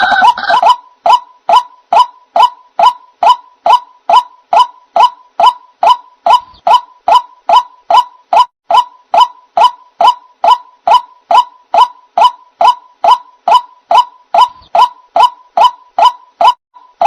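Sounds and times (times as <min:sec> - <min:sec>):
waterhen calling: 0:00.0 - 0:16.6.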